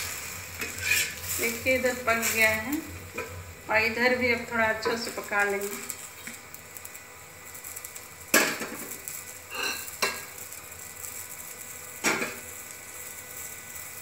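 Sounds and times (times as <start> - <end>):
faint sizzle of frying: 0.0 - 14.0.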